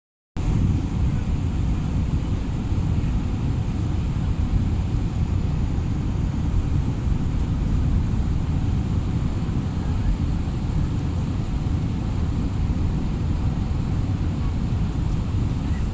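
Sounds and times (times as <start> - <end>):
aeroplane engine rumble: 0.4 - 15.9.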